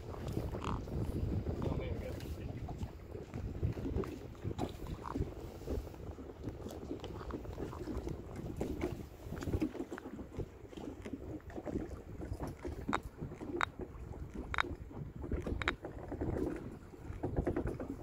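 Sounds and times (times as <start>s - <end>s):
water lapping: 0.0s - 18.0s
wind buffeting microphone: 0.0s - 18.0s.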